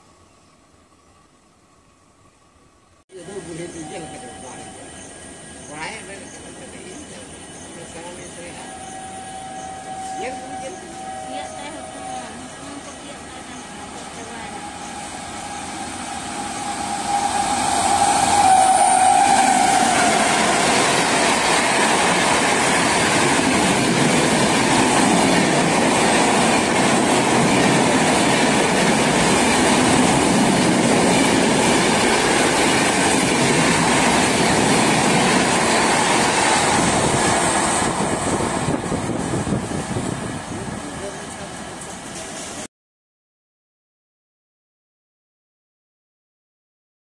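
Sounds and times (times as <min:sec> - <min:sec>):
passenger train passing at speed: 0:03.0 - 0:42.7.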